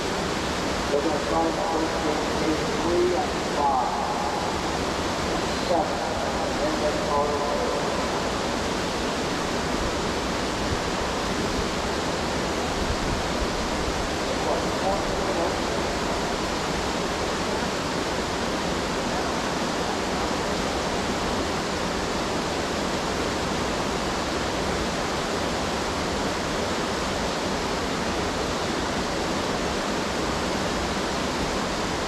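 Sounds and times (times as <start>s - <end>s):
whitewater rapid rushing: 0.0s - 32.0s.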